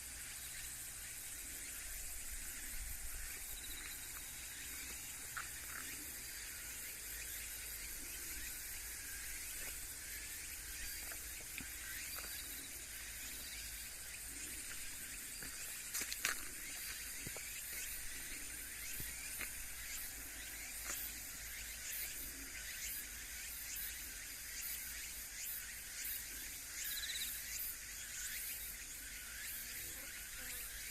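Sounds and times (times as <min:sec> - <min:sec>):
insects chirring: 0:00.0 - 0:30.9.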